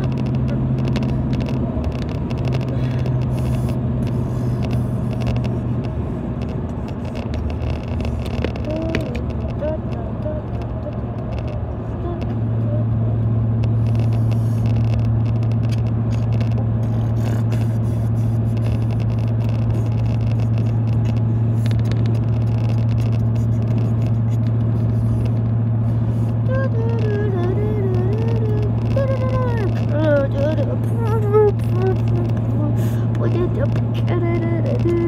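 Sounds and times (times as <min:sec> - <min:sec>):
car engine and road drone: 0:00.0 - 0:35.0.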